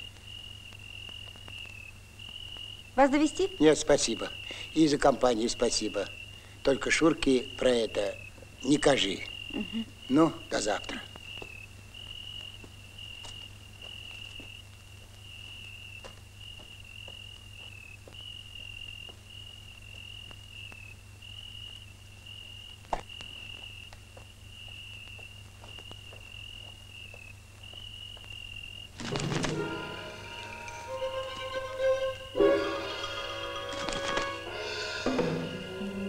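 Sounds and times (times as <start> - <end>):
cricket trilling: 0.0 - 36.0.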